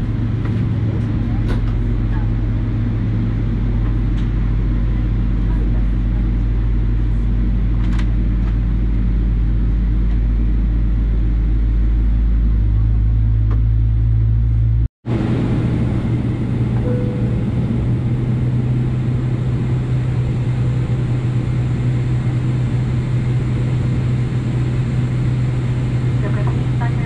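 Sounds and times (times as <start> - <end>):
airplane engines idling in cabin: 0.0 - 27.0.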